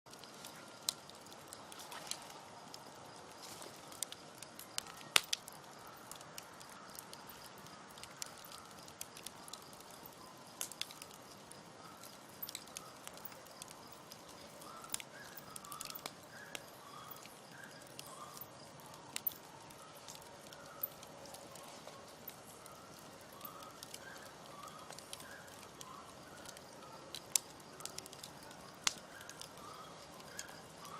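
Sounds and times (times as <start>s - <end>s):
campfire crackling and popping: 0.1s - 30.9s
soft fire hiss: 0.1s - 30.9s.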